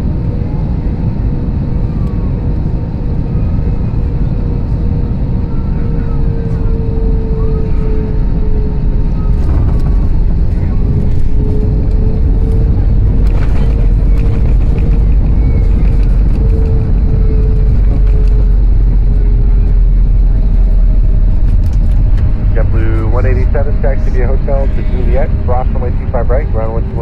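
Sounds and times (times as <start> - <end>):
deep rumble of engines and wheels: 0.0 - 27.0
wavering whine: 0.0 - 27.0.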